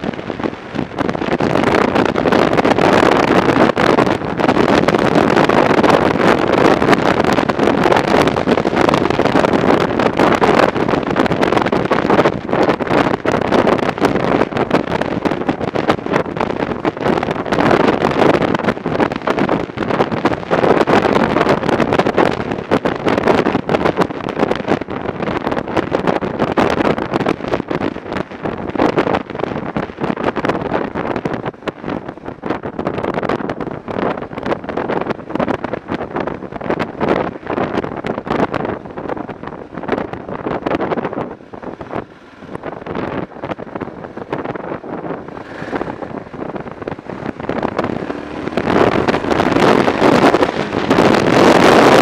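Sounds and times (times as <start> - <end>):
motorcycle running: 0.0 - 52.0
road noise: 0.0 - 52.0
wind buffeting microphone: 0.0 - 52.0.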